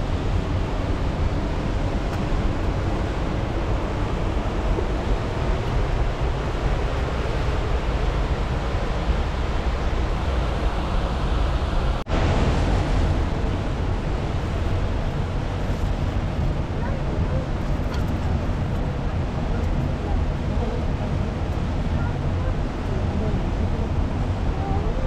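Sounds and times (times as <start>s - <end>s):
mountain river rushing: 0.0s - 25.0s.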